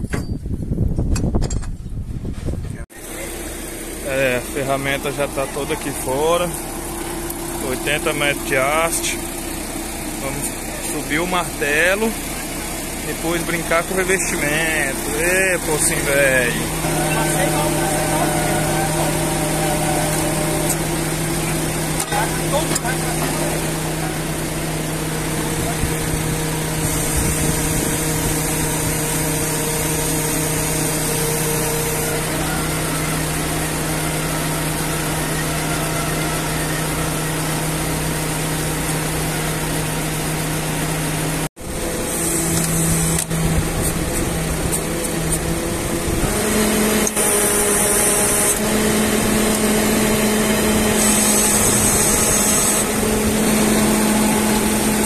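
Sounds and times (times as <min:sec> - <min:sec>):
drilling rig engine running: 0:02.8 - 0:55.0.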